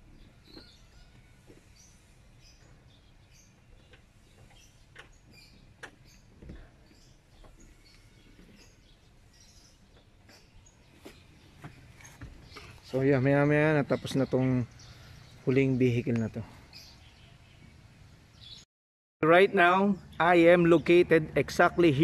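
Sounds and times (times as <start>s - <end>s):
bird chirps: 0.0s - 18.6s.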